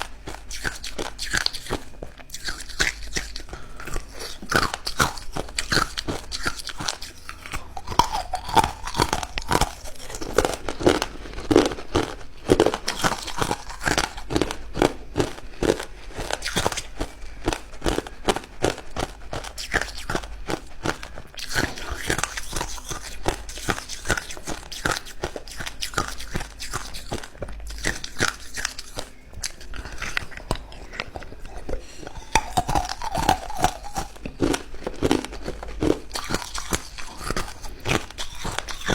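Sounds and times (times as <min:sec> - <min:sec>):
ice cubes crunching in mouth: 0:00.0 - 0:38.9.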